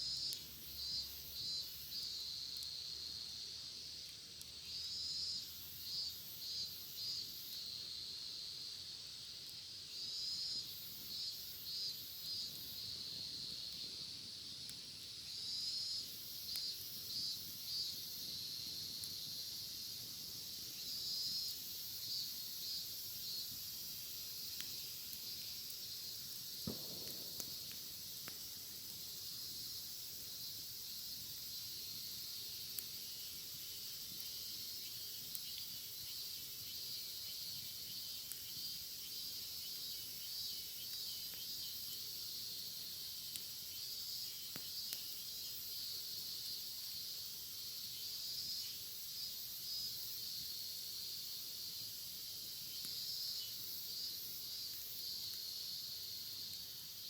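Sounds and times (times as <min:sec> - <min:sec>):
cicadas buzzing: 0:00.0 - 0:03.9, 0:04.6 - 0:57.0
bonfire crackling: 0:00.0 - 0:57.0.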